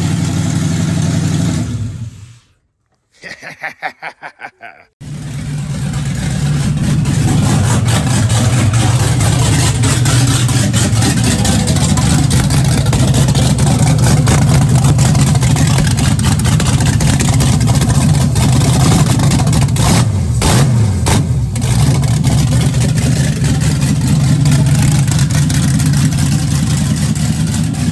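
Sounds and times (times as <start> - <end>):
loud engine running: 0.0 - 2.2, 5.0 - 27.9.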